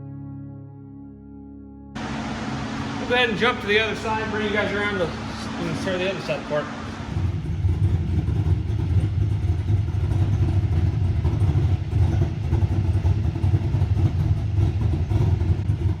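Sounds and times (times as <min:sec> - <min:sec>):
engine idling: 0:02.0 - 0:16.0.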